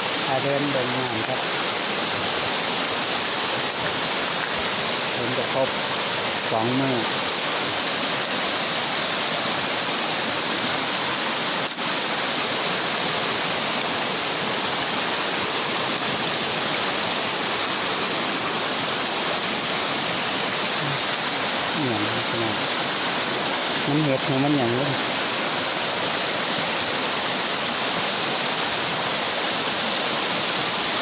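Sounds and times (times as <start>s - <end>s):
flood water rushing: 0.0s - 31.0s.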